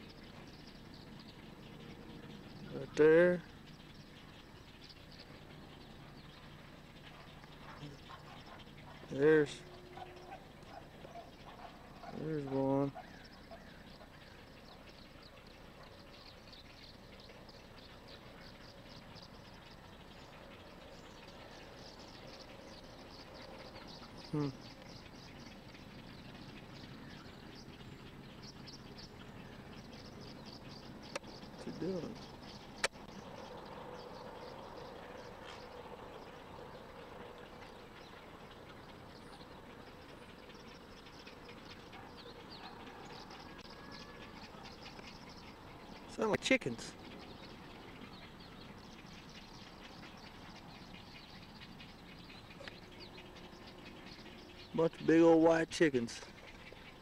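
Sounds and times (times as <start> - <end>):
wading birds chattering calls: 0.0 - 57.0.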